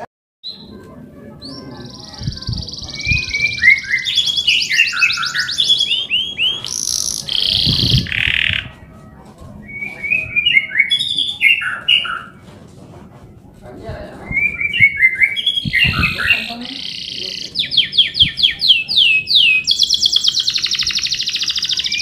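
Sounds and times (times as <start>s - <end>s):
canary singing: 1.4s - 8.9s, 9.6s - 12.4s, 14.2s - 22.0s.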